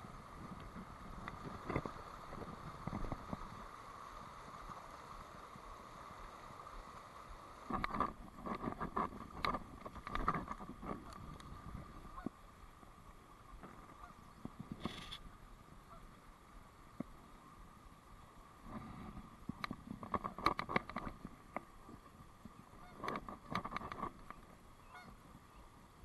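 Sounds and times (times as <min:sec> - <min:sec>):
small river flowing: 0:00.0 - 0:26.0.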